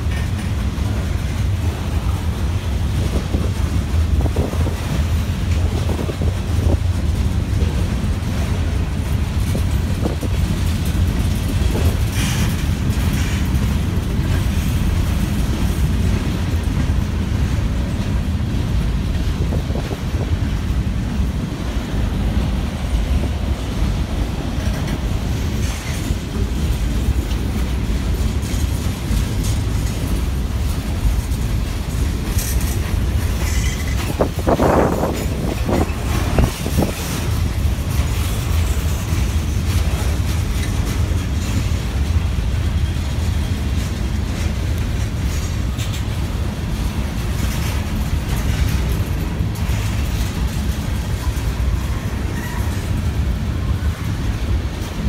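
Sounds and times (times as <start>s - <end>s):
train wheels rumbling on rail joints: 0.0s - 55.0s.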